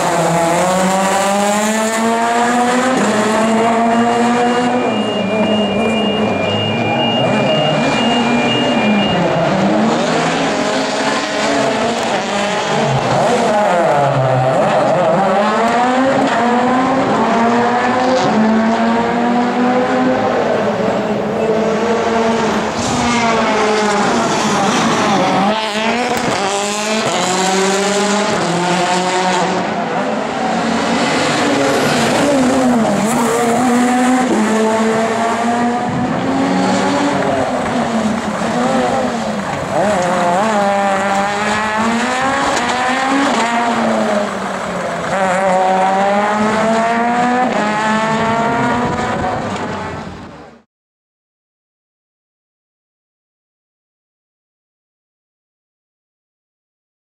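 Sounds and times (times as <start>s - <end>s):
rally car engine revving: 0.0s - 50.3s.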